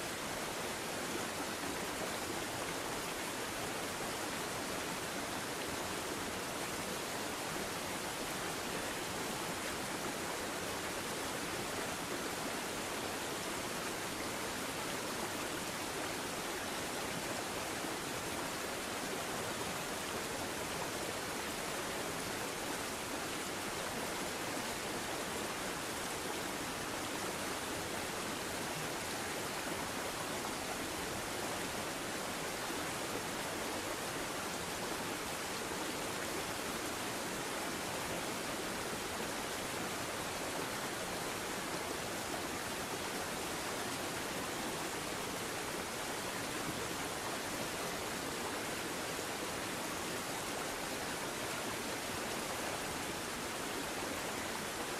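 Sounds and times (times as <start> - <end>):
creek water rushing: 0.0 - 54.9.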